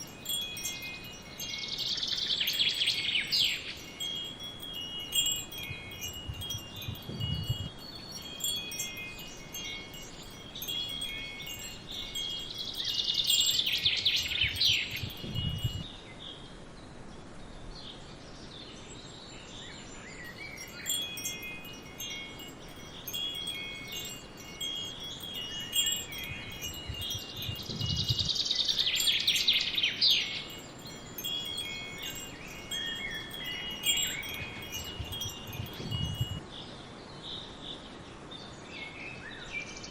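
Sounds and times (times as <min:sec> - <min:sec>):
metal wind chimes ringing: 0:00.0 - 0:15.9, 0:20.2 - 0:36.5.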